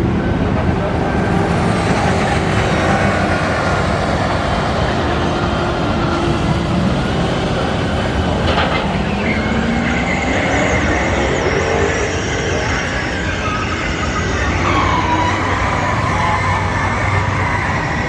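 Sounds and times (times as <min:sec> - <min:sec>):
engines rumbling: 0:00.0 - 0:18.0.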